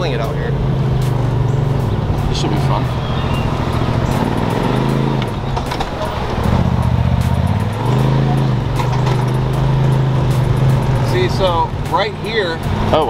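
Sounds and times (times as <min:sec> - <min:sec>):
utv engine revving: 0:00.0 - 0:13.0.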